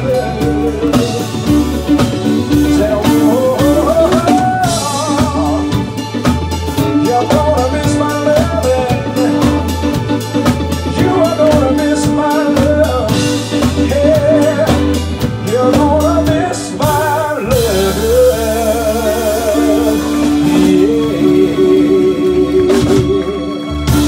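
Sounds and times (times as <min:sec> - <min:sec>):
drum kit: 0:00.0 - 0:24.0
electric bass: 0:00.0 - 0:24.0
electric guitar: 0:00.0 - 0:24.0
man singing with vibrato: 0:00.0 - 0:24.0.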